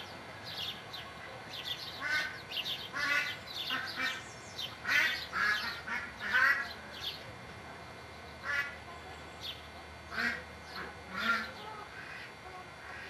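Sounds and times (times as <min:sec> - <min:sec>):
birds calling harshly: 0:00.0 - 0:07.3, 0:08.2 - 0:12.4.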